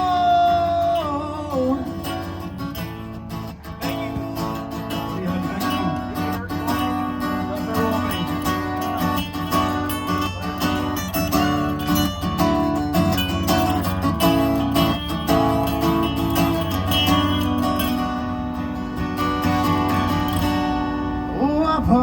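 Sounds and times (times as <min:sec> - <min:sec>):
strummed acoustic guitar: 0:00.0 - 0:22.0
live band instrumental: 0:02.2 - 0:21.3.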